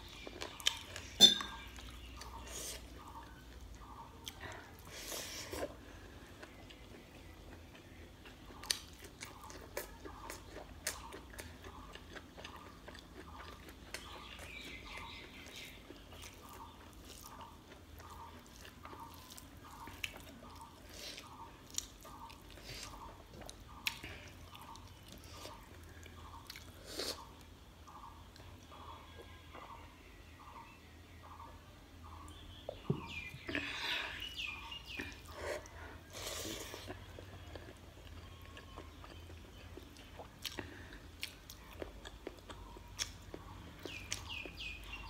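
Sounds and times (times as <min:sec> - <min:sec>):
wet chewing and mouth smacking: 0:00.0 - 0:28.5, 0:34.2 - 0:45.0.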